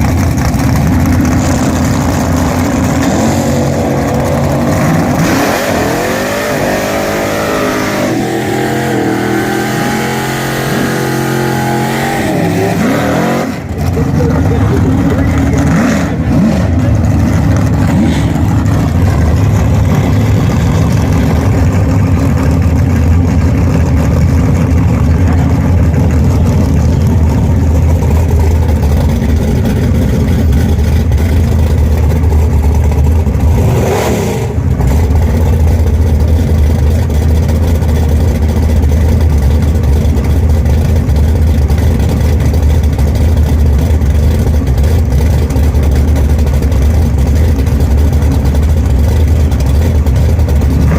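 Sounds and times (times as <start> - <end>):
drag car engine running: 0.0 - 50.9.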